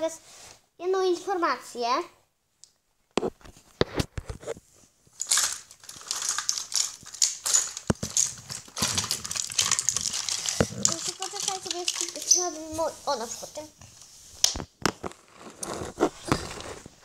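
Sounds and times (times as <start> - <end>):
rustling and scraping: 3.1 - 17.0.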